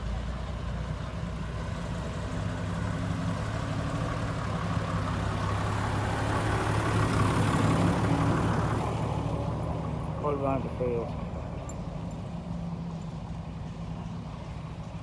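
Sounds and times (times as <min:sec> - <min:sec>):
large vehicle engine idling: 0:00.0 - 0:15.0.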